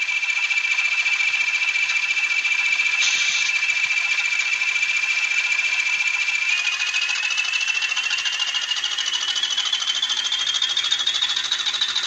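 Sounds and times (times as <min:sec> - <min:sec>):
diesel engine sound from tiny speaker: 0:00.0 - 0:12.0
high engine whine: 0:00.0 - 0:12.0.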